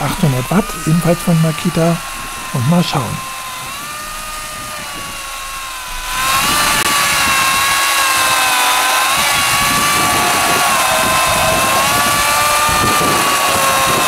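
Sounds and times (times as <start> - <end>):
electric chainsaw cutting log: 0.0 - 14.0.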